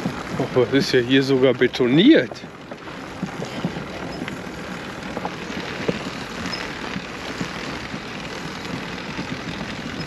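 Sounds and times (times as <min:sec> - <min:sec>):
small rattles and clicks: 0:00.0 - 0:10.0
trailer wheels rolling on concrete: 0:00.0 - 0:10.0.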